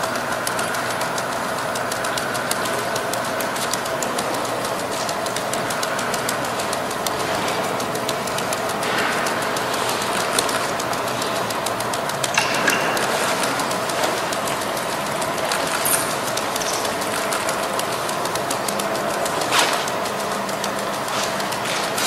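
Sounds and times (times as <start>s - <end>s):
juggling balls slapping palms: 0.0s - 22.0s.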